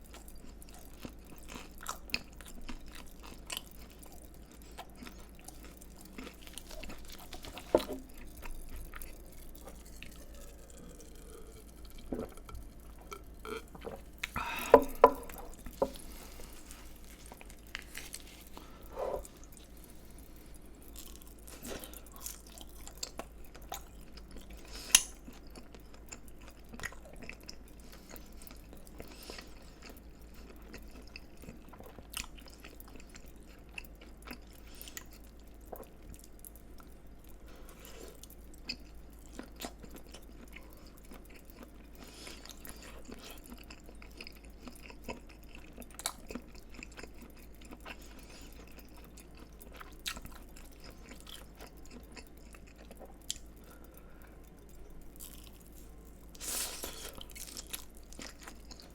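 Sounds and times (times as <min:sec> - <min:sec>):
chewing crispy food: 0:00.0 - 0:58.9.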